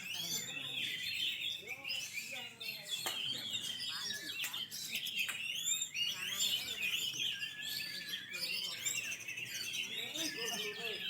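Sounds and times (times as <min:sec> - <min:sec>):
birds singing: 0:00.0 - 0:11.0.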